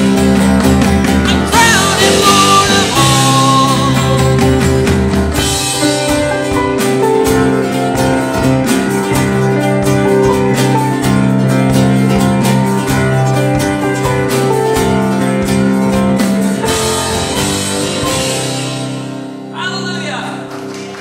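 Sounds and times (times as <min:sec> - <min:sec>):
strummed acoustic guitar: 0:00.0 - 0:19.5
keyboards holding long chords: 0:00.0 - 0:21.0.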